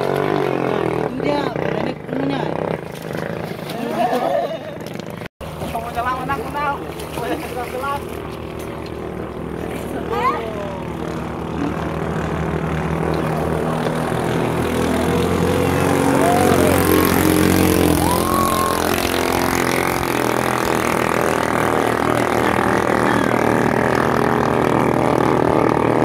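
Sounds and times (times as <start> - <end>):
boat motors at full throttle: 0.0 - 26.0.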